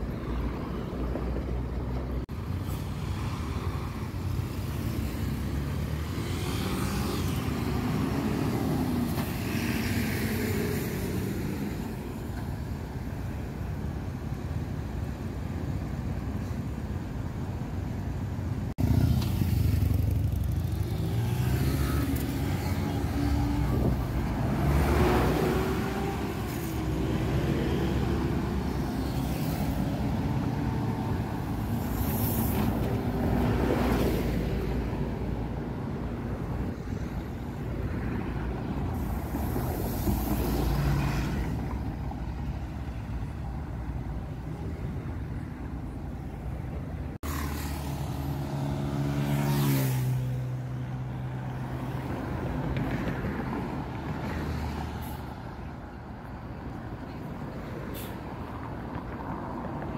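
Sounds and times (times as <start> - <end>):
bus and cars passing: 0.0 - 59.9.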